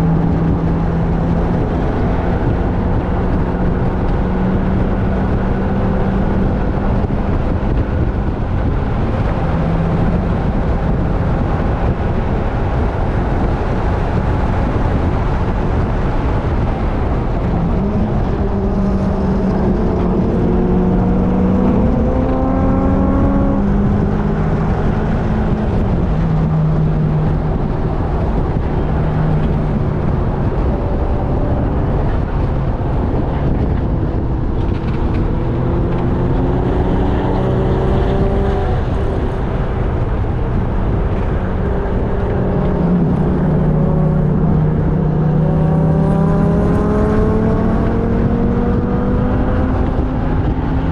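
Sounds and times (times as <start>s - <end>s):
car engine drone: 0.0s - 50.9s
road and wind noise: 0.0s - 50.9s.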